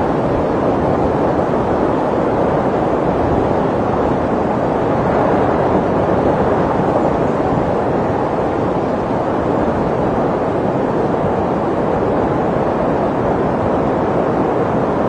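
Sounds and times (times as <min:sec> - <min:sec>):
snowstorm wind blowing: 0:00.0 - 0:15.0.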